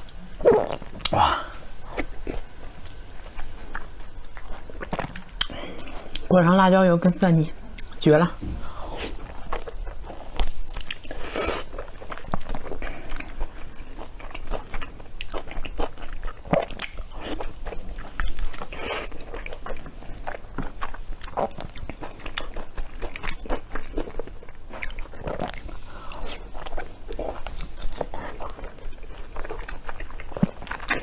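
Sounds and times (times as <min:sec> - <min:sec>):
chewing and biting: 0:00.0 - 0:06.3, 0:08.7 - 0:31.0.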